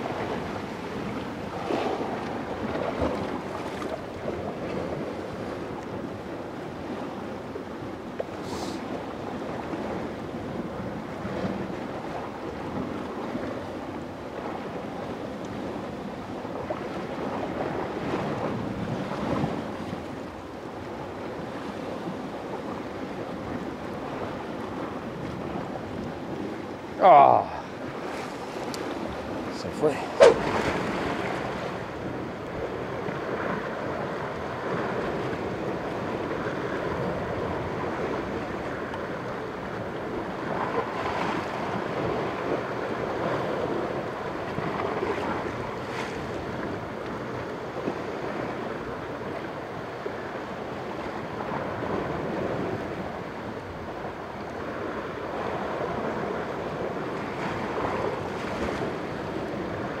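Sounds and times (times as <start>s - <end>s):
surf washing against rocks: 0.0s - 60.0s
wind buffeting the microphone: 0.0s - 60.0s.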